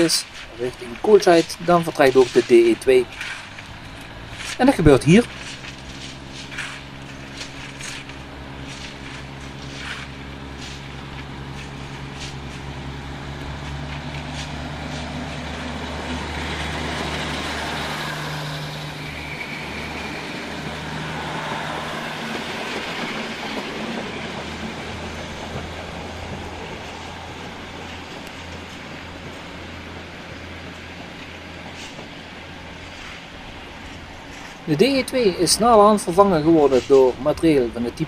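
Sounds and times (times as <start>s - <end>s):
diesel engine drone: 0.0s - 38.0s
train wheels clicking on rails: 0.0s - 38.0s.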